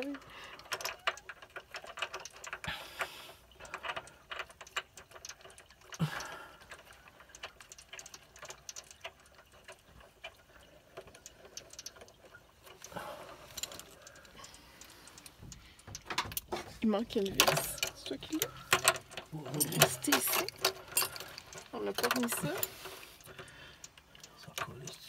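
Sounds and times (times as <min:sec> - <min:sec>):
light metallic clicks and ticks: 0:00.0 - 0:25.0.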